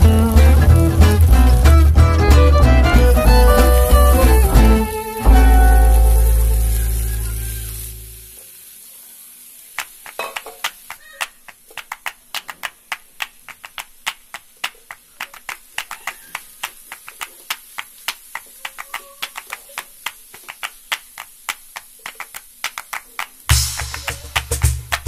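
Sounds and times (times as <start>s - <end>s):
faint sizzle: 0.0s - 25.0s.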